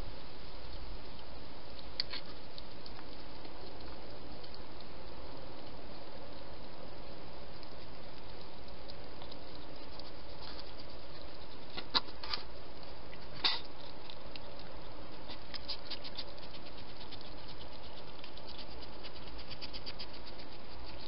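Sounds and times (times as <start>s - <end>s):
hedgehog chewing and crunching: 0.0s - 21.0s.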